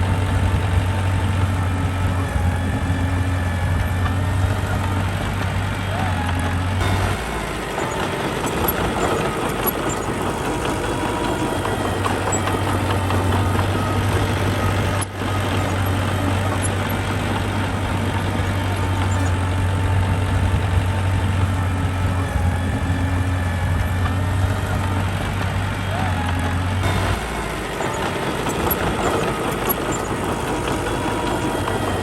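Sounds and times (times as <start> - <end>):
diesel engine of earthmoving machinery: 0.0 - 32.0.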